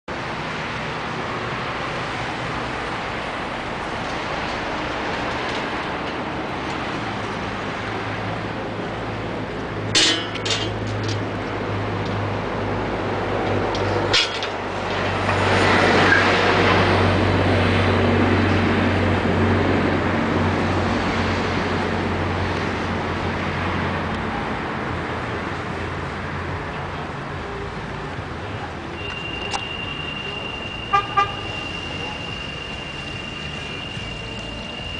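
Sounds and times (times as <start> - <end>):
bus passing: 0.1 - 34.9
idling vehicle engines hum: 0.1 - 34.9.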